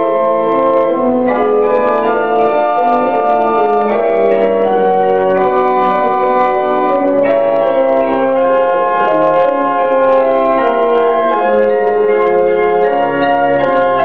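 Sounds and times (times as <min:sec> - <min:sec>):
pipe organ chords: 0:00.0 - 0:14.0.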